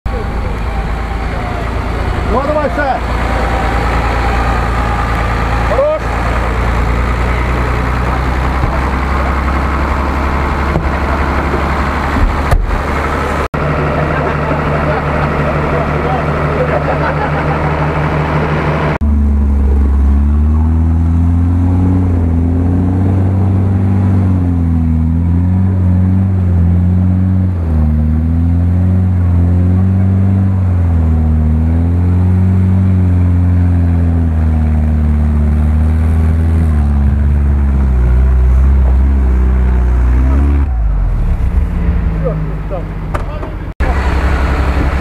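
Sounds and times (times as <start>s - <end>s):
off-road vehicle engine revving: 0.1s - 45.0s.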